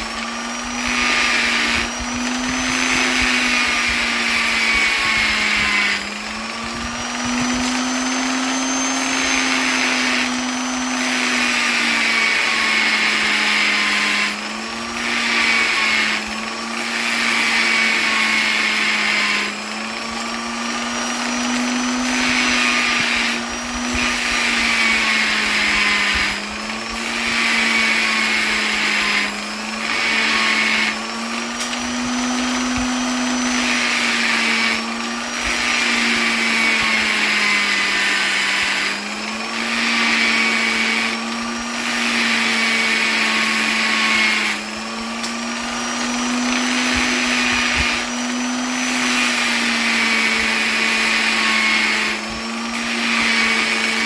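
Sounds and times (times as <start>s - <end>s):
electric polisher motor whining: 0.0s - 54.0s.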